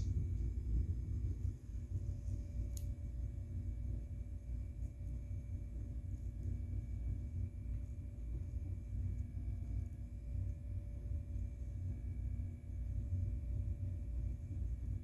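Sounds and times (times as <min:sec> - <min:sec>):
faint constant hum: 0:00.0 - 0:15.0
low rumble: 0:00.0 - 0:15.0.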